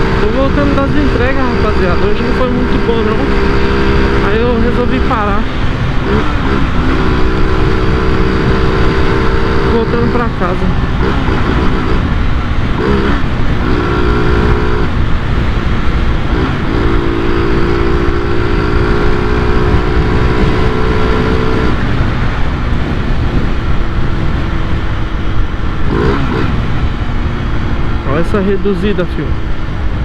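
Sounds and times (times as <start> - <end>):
motorcycle engine growling: 0.0 - 30.0
wind rumble: 0.0 - 30.0.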